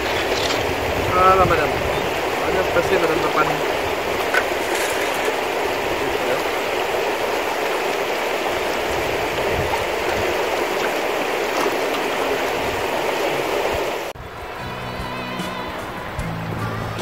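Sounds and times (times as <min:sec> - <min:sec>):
river water flowing over gravel: 0:00.0 - 0:16.6.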